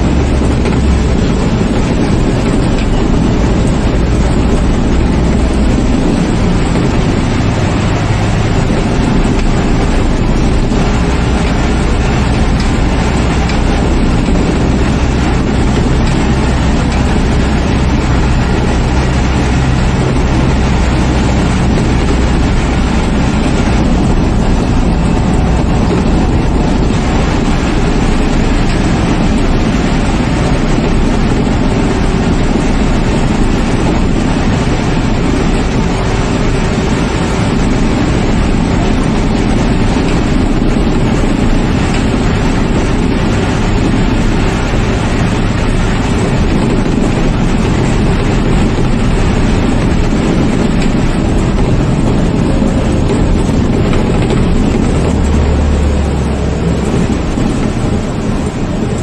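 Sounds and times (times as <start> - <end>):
bus engine and tyre rumble: 0.0 - 59.0
deep low hum: 0.0 - 59.0.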